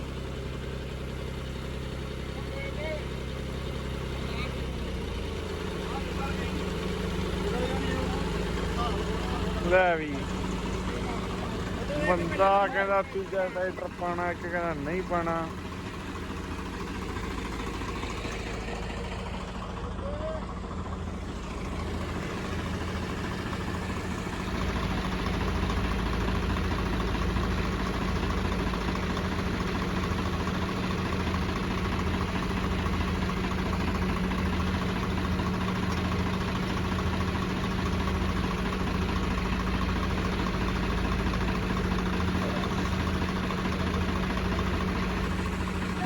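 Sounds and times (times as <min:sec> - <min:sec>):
tractor diesel engines under load: 0:00.0 - 0:46.0.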